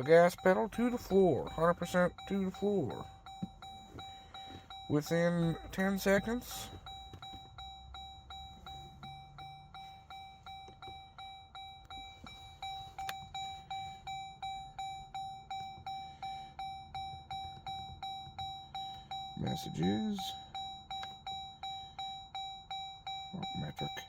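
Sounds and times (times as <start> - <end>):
dashboard warning chime: 0.0 - 24.0.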